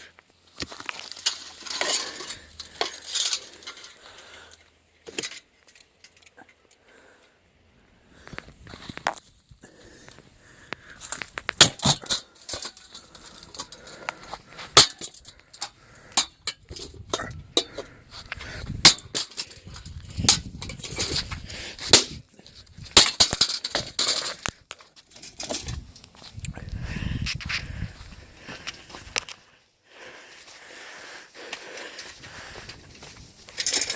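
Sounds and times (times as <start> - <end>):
rumbling handling noise: 0.0 - 6.4, 8.1 - 29.4, 31.4 - 33.9.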